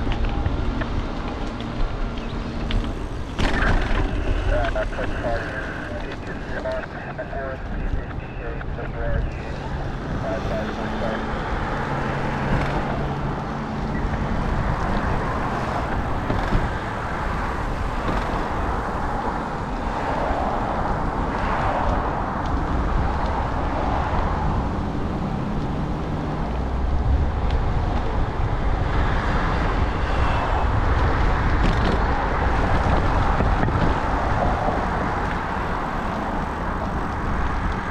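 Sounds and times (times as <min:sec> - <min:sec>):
road traffic rushing by: 0:00.0 - 0:37.9.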